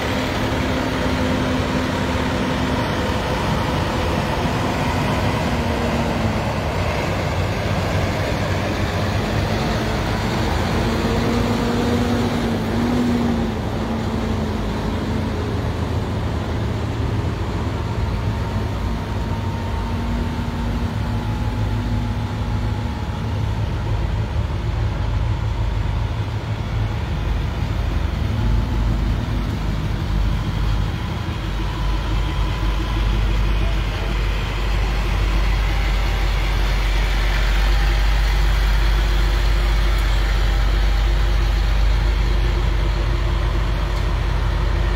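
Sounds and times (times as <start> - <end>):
truck engines rumbling past: 0.0 - 44.9.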